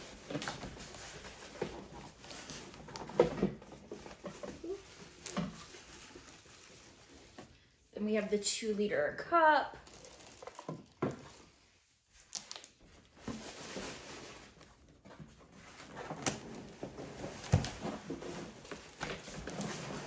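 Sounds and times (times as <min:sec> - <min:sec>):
packaging rustling and crinkling: 0:00.0 - 0:07.9, 0:09.8 - 0:20.0.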